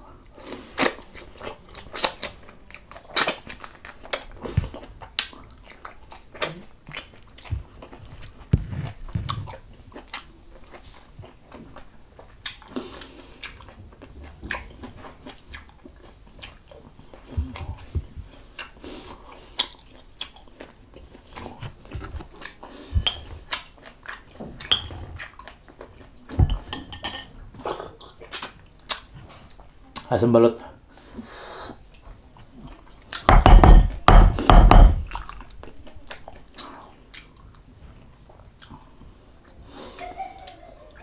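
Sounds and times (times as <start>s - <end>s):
close chewing: 0.1s - 26.4s, 27.6s - 30.1s, 30.9s - 33.3s, 35.0s - 40.1s.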